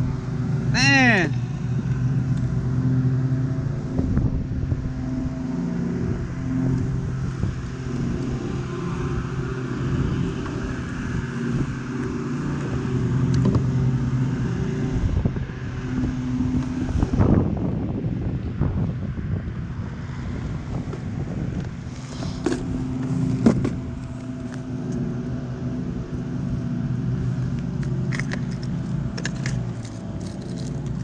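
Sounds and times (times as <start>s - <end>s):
motor engine humming: 0.0s - 31.0s.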